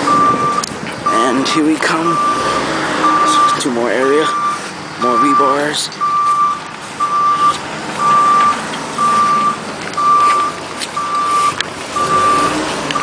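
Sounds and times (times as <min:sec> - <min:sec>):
backup alarm beeping: 0:00.0 - 0:13.0.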